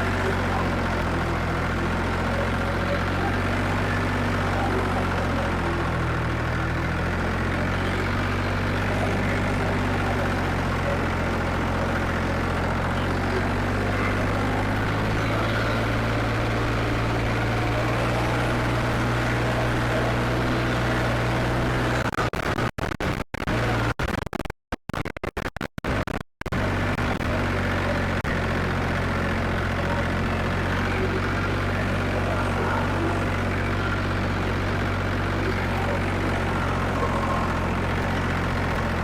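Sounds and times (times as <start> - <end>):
tractor diesel engine running: 0.0 - 24.0, 25.9 - 39.0.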